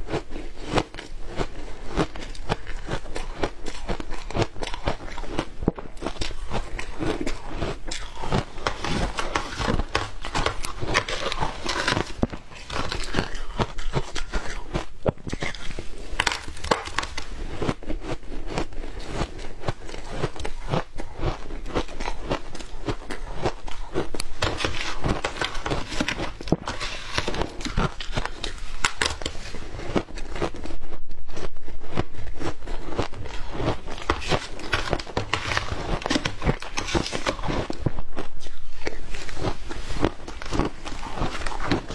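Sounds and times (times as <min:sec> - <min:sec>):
chewing crunchy ice: 0:00.0 - 0:41.9.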